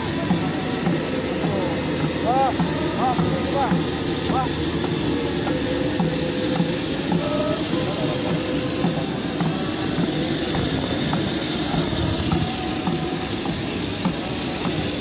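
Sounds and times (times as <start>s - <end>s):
faint steady tones: 0.0s - 15.0s
jet airliner mechanical noise: 0.0s - 15.0s.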